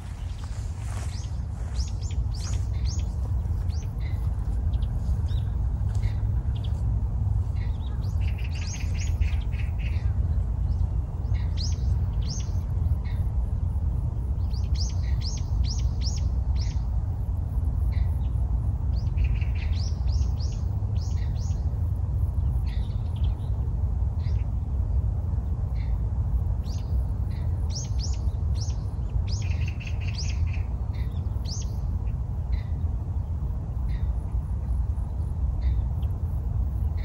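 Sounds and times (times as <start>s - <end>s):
small birds chirping: 0.0s - 37.0s
steady low rumble: 0.0s - 37.0s.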